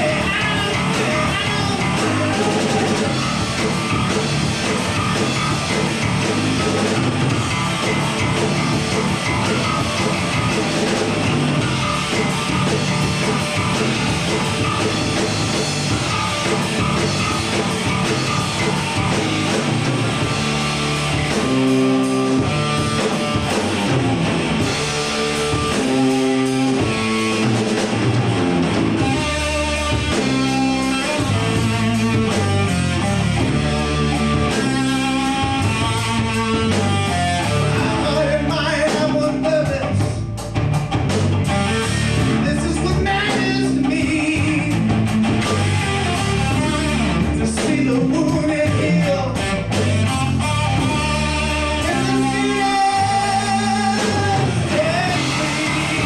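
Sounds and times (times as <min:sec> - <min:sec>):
drum kit: 0:00.0 - 0:56.0
electric guitar: 0:00.0 - 0:56.0
second guitar: 0:00.0 - 0:56.0.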